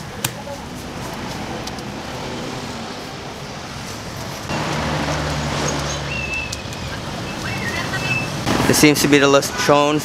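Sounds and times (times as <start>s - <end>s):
street traffic hum: 0.0s - 10.0s
engine hum with hiss: 0.5s - 9.1s.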